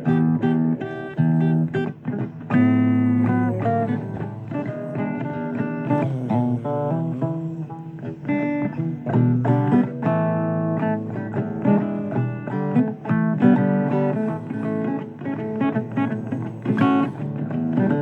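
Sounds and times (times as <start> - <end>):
blues guitar playing: 0.0 - 18.0.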